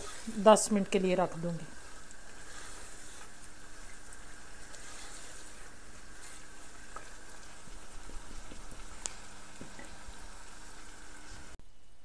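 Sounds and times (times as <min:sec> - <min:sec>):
food sizzling in oil: 0:00.0 - 0:11.6
spoon stirring in a pan: 0:00.0 - 0:11.6.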